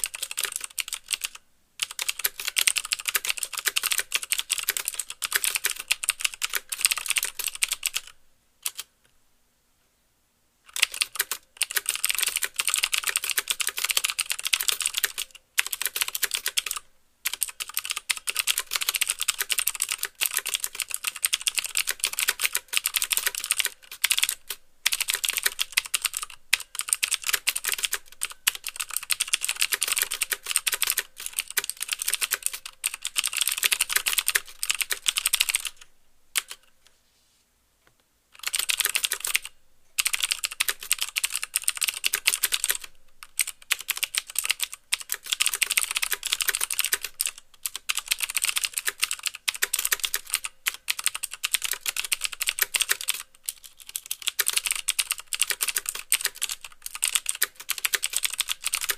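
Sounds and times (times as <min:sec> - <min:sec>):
fast typing on mechanical keyboard: 0:00.0 - 0:08.9, 0:10.7 - 0:36.6, 0:38.4 - 0:58.9.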